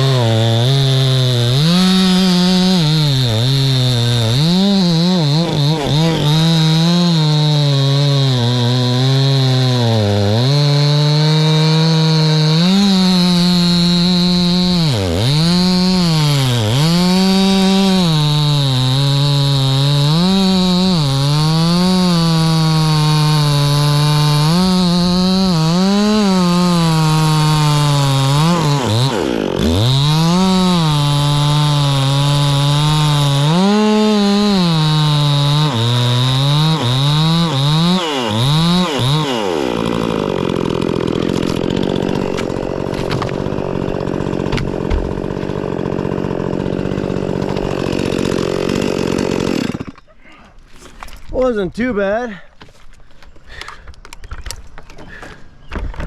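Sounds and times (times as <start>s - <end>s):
chainsaw cutting wood: 0.0s - 50.1s.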